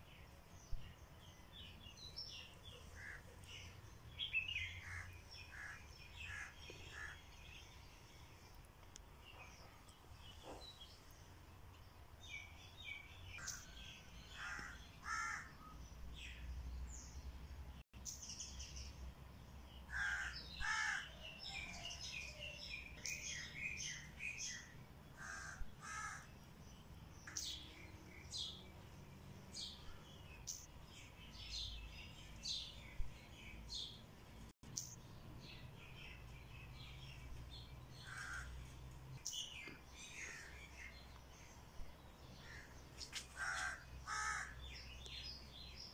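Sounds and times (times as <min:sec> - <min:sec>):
loud paired bird calls: 0:01.0 - 0:08.2, 0:12.3 - 0:17.1, 0:19.8 - 0:34.0, 0:34.8 - 0:45.9.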